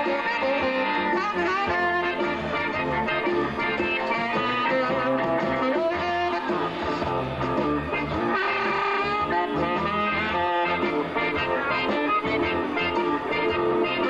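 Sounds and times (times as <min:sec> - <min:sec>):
live blues band: 0:00.0 - 0:14.0
saxophone lead: 0:00.0 - 0:14.0.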